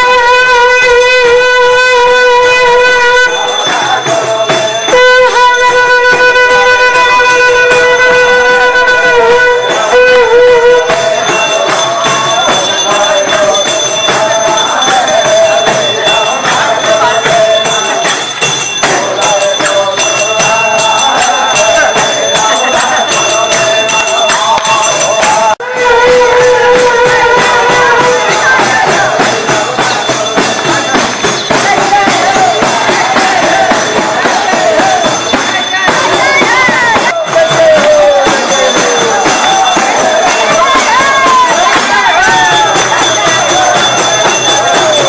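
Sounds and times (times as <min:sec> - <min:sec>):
drum strokes: 0:00.0 - 0:45.0.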